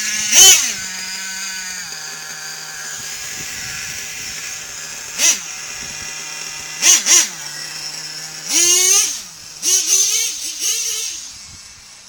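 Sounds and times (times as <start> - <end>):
small nitro engine buzzing and revving: 0.0 - 12.0.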